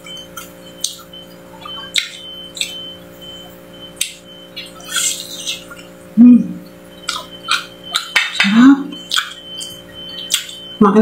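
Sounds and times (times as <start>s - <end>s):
chewing and lip smacks: 0.0s - 10.8s.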